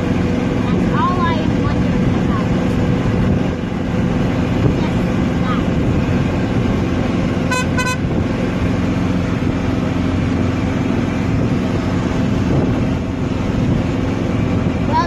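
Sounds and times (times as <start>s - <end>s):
golf cart running: 0.0s - 15.0s
wind rumble on microphone: 0.0s - 15.0s.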